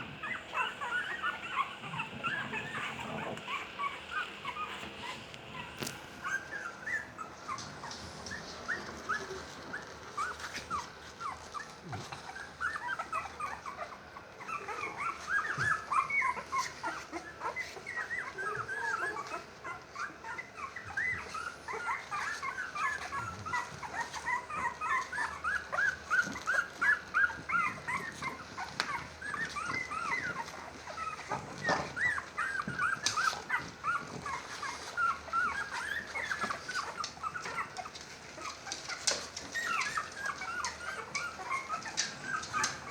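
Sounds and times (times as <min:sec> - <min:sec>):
puppies whimpering and squeaking: 0:00.0 - 0:42.9.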